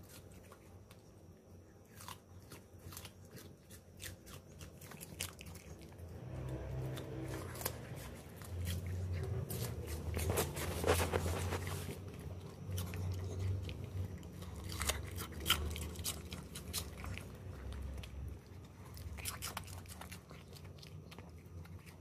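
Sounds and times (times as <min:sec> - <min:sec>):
dog crunching radish: 0:00.0 - 0:22.0
low steady hum: 0:00.0 - 0:22.0.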